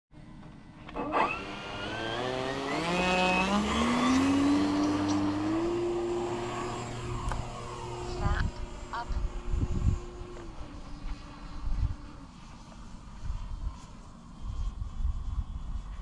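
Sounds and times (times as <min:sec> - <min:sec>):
model plane motor and propeller: 0:00.2 - 0:16.0.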